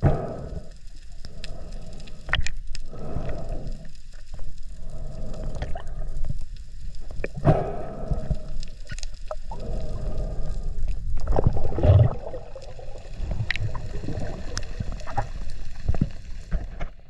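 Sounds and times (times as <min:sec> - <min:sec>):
underwater rumble of moving water: 0:00.0 - 0:17.0.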